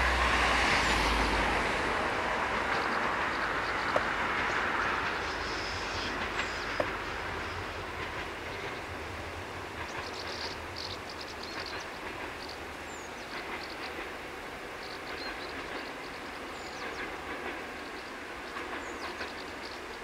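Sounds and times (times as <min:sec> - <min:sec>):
distant diesel train rumble: 0:00.0 - 0:20.0.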